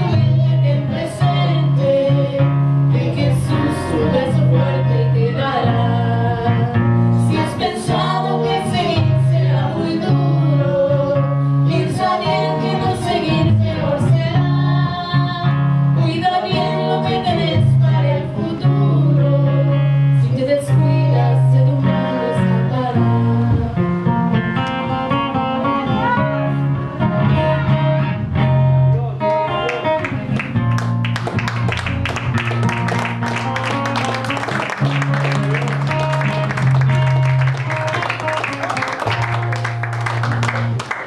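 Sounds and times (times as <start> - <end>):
guitar playing: 0.0 - 41.0.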